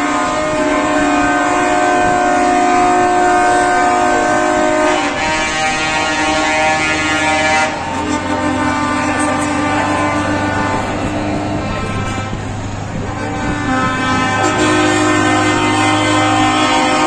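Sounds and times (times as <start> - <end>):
truck air horns blowing: 0.0 - 17.0.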